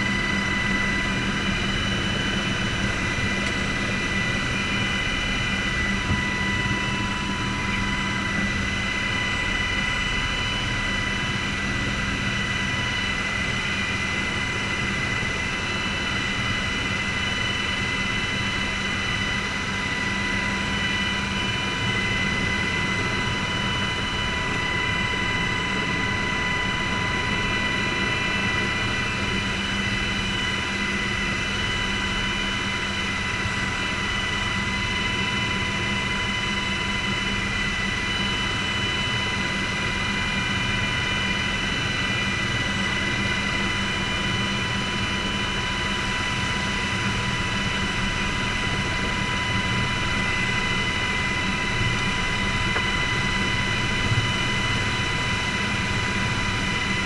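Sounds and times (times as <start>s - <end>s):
helicopter engine and rotor drone: 0.0s - 57.0s
high-pitched whine: 0.0s - 57.0s.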